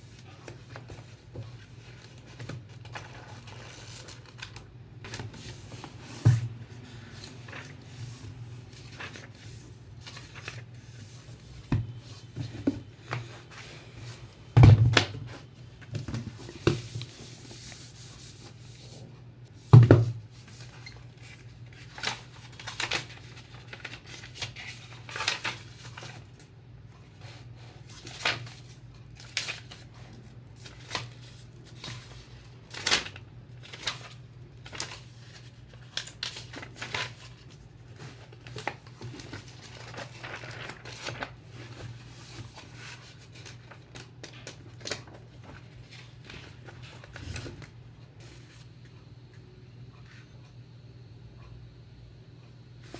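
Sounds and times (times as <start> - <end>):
packaging rustling and crinkling: 0.1 - 19.0, 20.0 - 26.5, 27.2 - 48.7.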